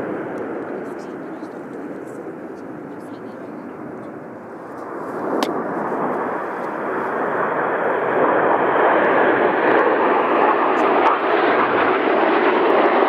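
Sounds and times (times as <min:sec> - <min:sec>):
jets flying: 0:00.0 - 0:13.0.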